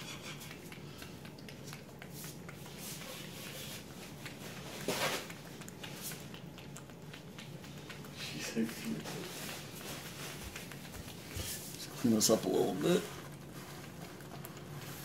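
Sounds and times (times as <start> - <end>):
cat chewing and lapping: 0.0 - 15.0.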